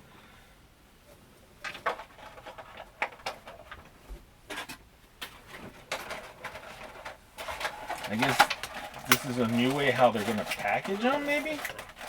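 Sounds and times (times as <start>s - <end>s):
cardboard and plastic packaging handled: 1.6s - 12.0s.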